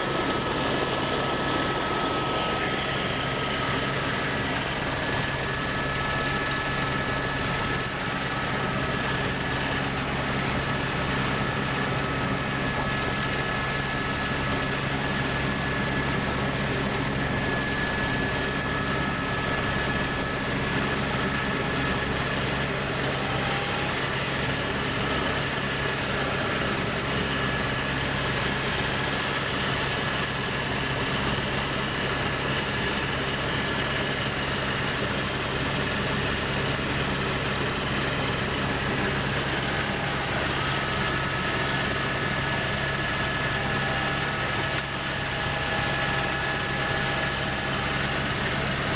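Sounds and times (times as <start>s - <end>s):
aircraft engine drone in cabin: 0.0s - 48.9s.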